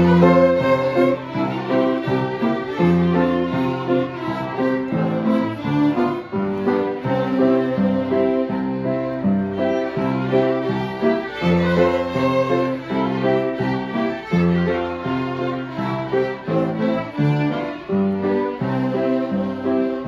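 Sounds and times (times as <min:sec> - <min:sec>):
fiddles playing lively tune: 0:00.0 - 0:20.0
piano accompaniment: 0:00.0 - 0:20.0.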